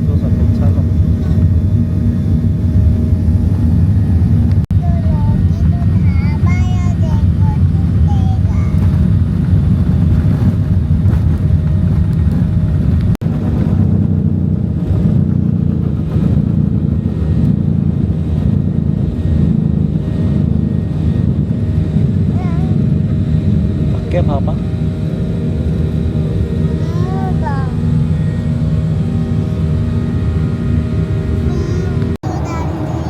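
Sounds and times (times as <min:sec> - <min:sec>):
airliner cabin engine rumble: 0:00.0 - 0:33.0.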